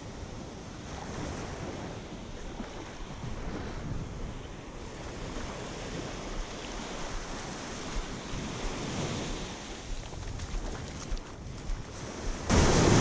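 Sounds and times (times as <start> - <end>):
surf washing up a sandy beach: 0.0 - 13.0
wind buffeting microphone: 0.2 - 13.0.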